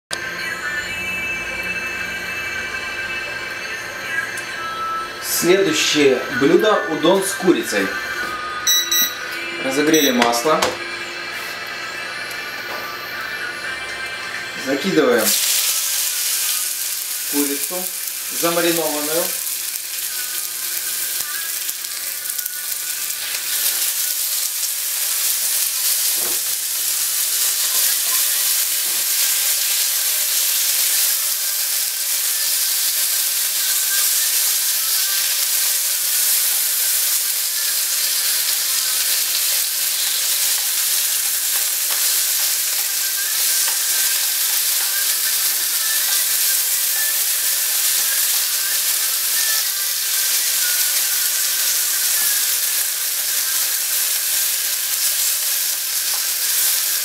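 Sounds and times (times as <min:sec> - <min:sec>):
chicken sizzling in oil: 0:00.3 - 0:57.0.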